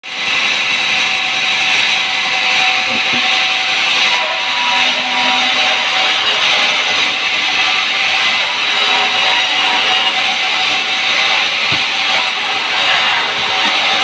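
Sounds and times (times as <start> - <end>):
saw cutting through wood: 0.0 - 14.0.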